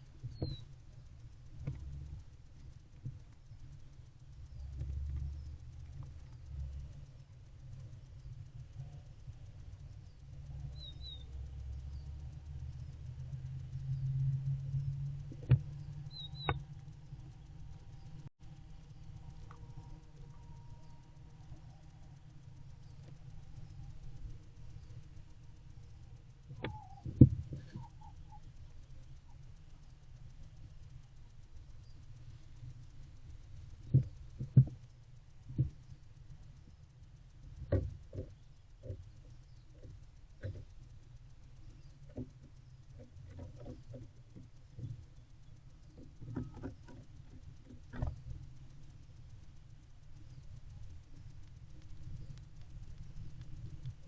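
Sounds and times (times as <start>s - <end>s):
small bird chirping: 0.0s - 54.0s
steady low hum: 0.0s - 54.0s.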